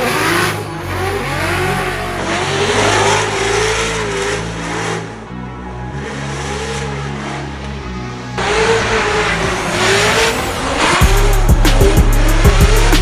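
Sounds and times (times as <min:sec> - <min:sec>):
bass of background music: 0:00.0 - 0:13.0
car engines revving: 0:00.0 - 0:13.0.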